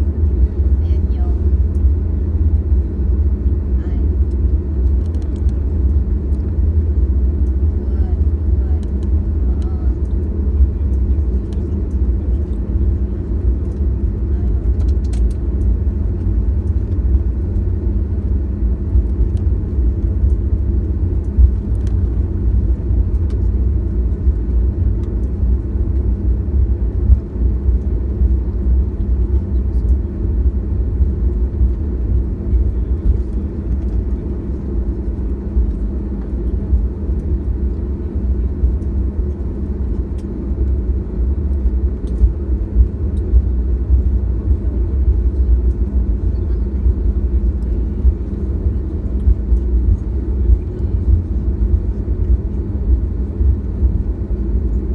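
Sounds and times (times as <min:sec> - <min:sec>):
airliner low rumble: 0:00.0 - 0:54.9.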